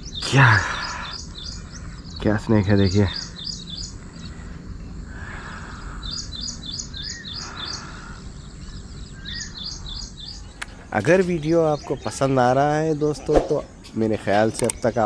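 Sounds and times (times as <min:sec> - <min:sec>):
background noise: 0:00.0 - 0:15.0
small birds chirping: 0:00.0 - 0:15.0.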